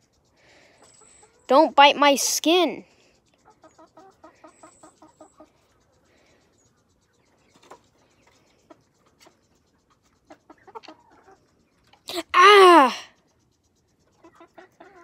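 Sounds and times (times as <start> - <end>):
chickens clucking: 0.0 - 1.5, 2.8 - 12.1, 13.2 - 15.0.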